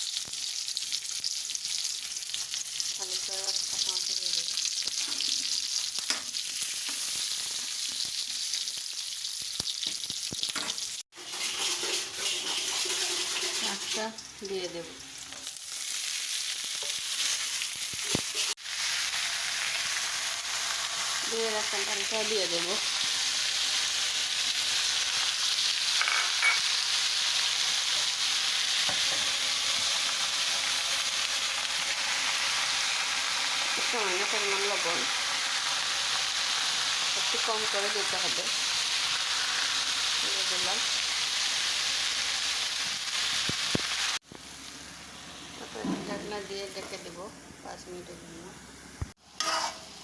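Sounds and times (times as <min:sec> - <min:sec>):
vegetables sizzling in oil: 0:00.0 - 0:50.0.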